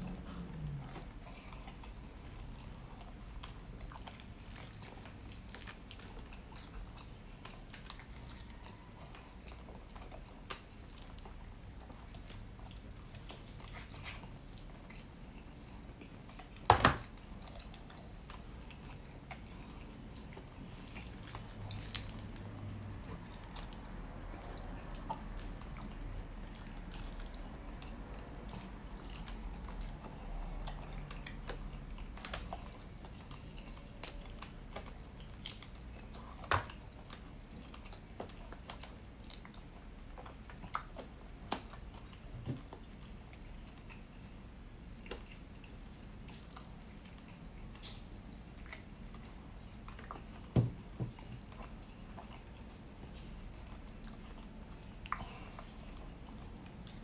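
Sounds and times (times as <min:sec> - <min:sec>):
close-miked chewing: 0:00.0 - 0:57.0.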